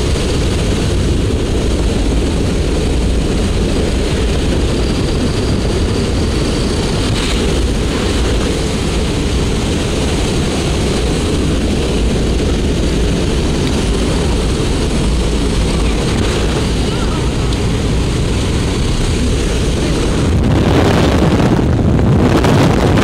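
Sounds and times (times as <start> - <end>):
propeller engine drone: 0.0 - 23.0
wind rushing: 0.0 - 23.0.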